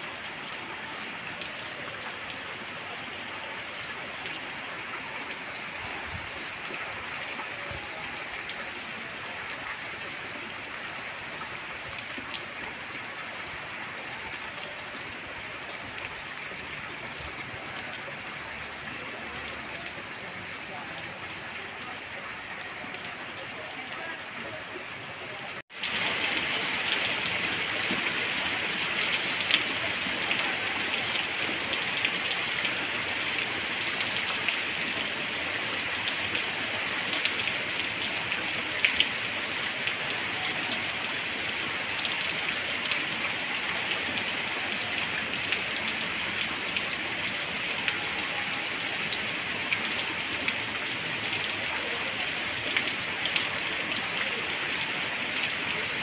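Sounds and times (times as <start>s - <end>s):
rain hissing on puddle: 0.0s - 56.0s.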